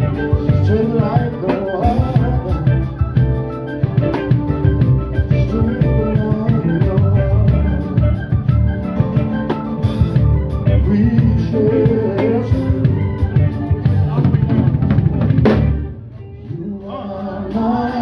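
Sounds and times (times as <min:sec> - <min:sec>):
drum kit snare and cymbals: 0:00.0 - 0:18.0
electric guitar: 0:00.0 - 0:18.0
live band music: 0:00.0 - 0:18.0.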